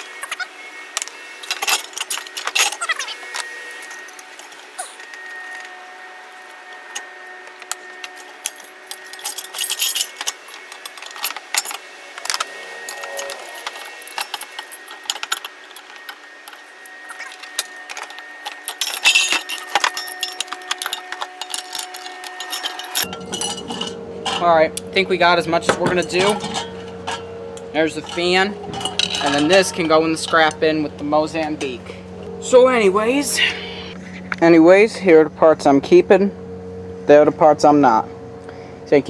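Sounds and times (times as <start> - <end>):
metal fan parts clinking and scraping: 0.0 - 32.3.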